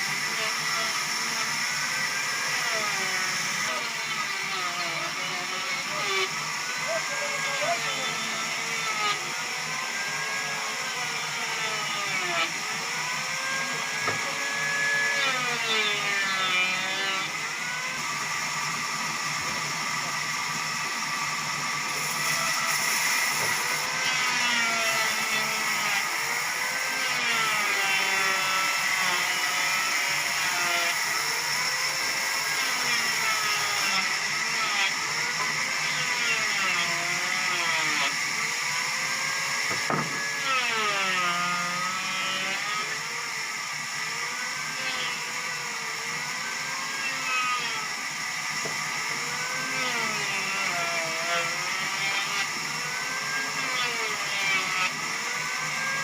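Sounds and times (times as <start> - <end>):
sawmill machinery whining: 0.0 - 56.0.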